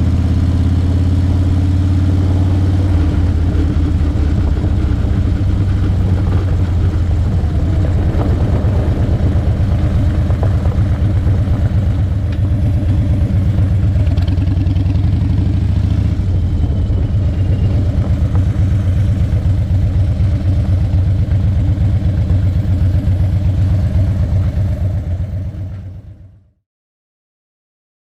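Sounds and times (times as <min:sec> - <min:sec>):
motorcycle engine rumbling: 0:00.0 - 0:26.4.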